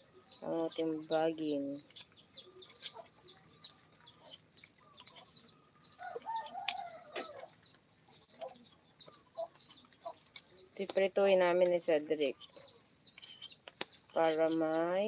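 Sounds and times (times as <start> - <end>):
chickens chirping: 0.0 - 15.0.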